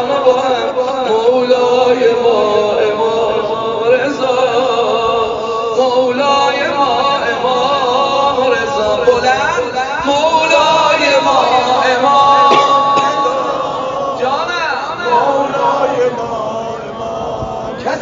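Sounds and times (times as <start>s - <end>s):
background voices: 0.0s - 18.0s
man chanting: 0.0s - 18.0s.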